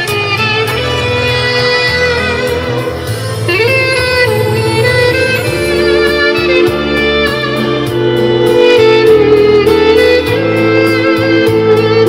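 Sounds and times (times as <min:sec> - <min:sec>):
bass accompaniment: 0:00.0 - 0:12.0
woodwind melody: 0:01.3 - 0:11.7.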